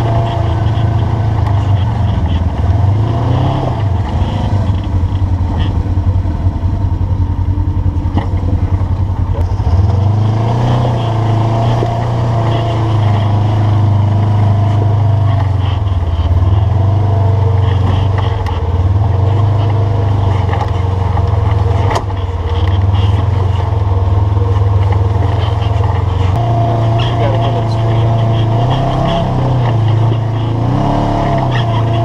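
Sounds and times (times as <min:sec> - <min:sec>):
utility vehicle engine running: 0:00.0 - 0:32.0.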